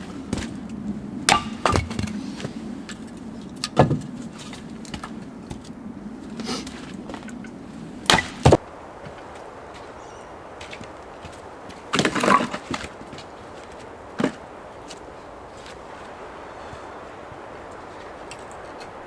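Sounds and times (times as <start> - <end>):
firewood cracking and splitting: 0.0 - 16.2.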